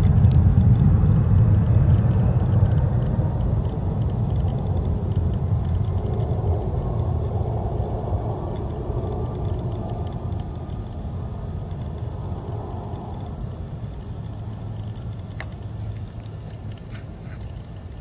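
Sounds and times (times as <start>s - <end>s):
aircraft engine rumble: 0.0s - 18.0s.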